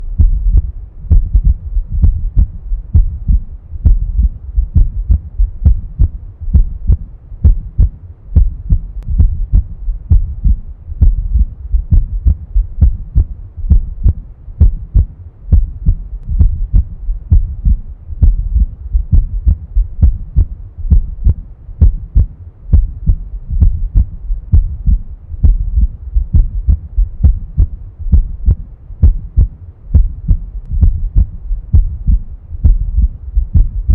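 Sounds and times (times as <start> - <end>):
heartbeat thumps: 0.0 - 33.9.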